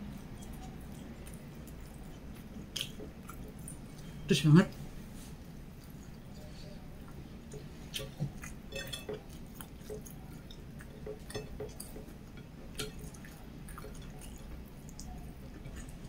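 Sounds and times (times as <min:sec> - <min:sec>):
wet chewing and lip smacks: 0:00.0 - 0:04.8, 0:05.4 - 0:06.4, 0:07.0 - 0:16.0.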